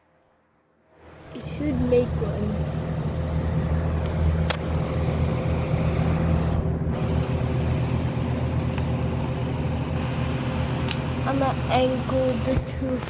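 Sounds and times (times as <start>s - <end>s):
electric fans whirring: 0.9s - 13.0s.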